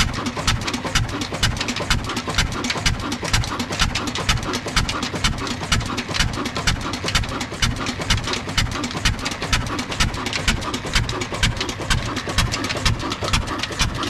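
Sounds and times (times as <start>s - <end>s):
diesel engine thudding slowly: 0.0s - 14.0s.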